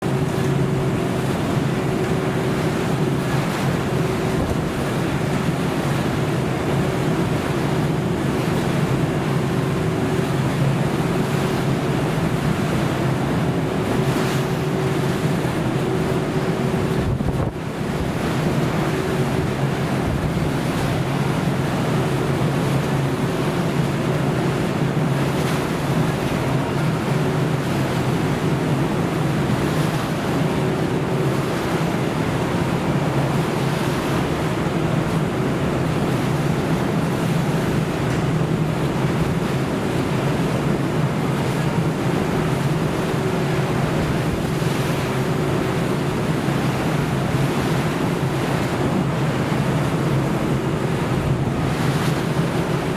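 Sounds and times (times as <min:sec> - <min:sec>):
rough sea: 0:00.0 - 0:52.9
ship engine drone: 0:00.0 - 0:52.9
wind: 0:00.0 - 0:52.9.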